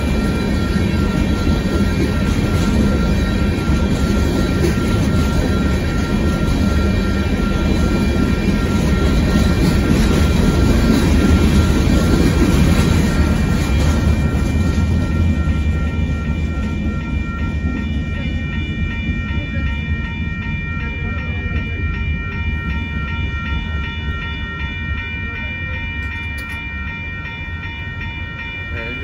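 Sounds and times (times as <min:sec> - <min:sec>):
crossing warning bell ringing: 0:00.0 - 0:29.0
freight train rumbling past: 0:00.0 - 0:29.0.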